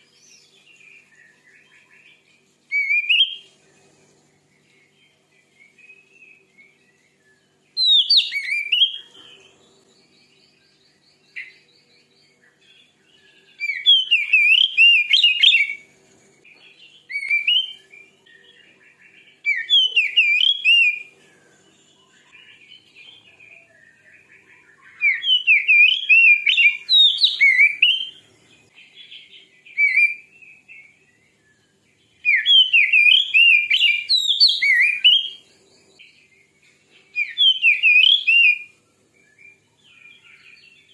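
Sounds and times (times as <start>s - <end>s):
bird singing whistled phrases: 0.0s - 3.5s, 4.6s - 9.3s, 12.5s - 15.8s, 16.8s - 21.1s, 21.9s - 28.2s, 28.8s - 36.1s, 37.1s - 40.9s.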